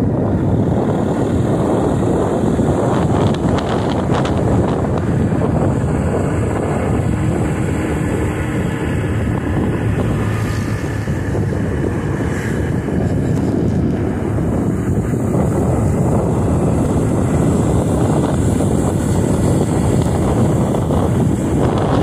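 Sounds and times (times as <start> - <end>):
motorcycle engine cruising: 0.0 - 22.0
road noise: 0.0 - 22.0
wind rush on microphone: 0.0 - 22.0.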